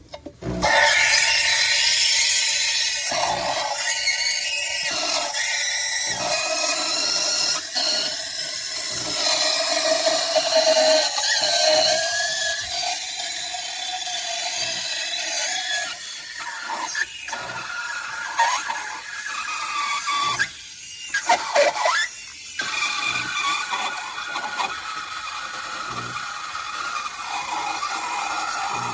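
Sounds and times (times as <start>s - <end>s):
espresso machine hissing and whining: 0.5s - 16.4s, 17.3s - 28.9s.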